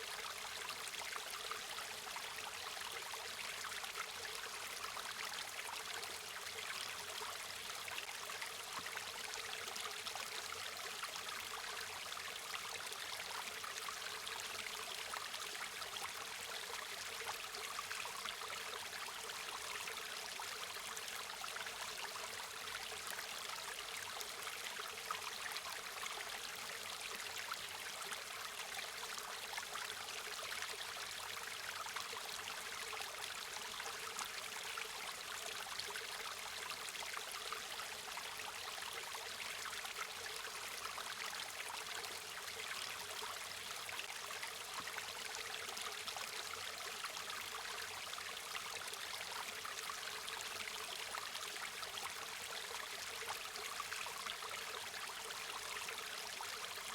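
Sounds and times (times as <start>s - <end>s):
stream burbling over stones: 0.0s - 56.9s.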